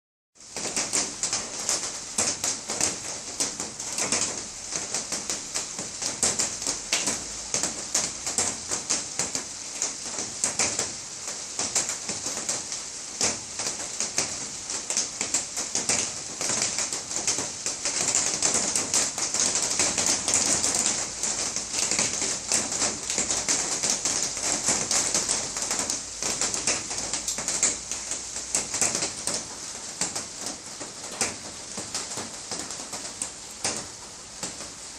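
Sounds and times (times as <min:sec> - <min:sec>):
rain pattering: 0:00.4 - 0:34.9.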